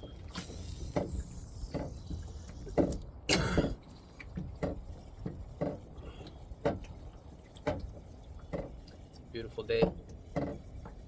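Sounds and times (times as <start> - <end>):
water slapping kayak hull: 0.0 - 11.0.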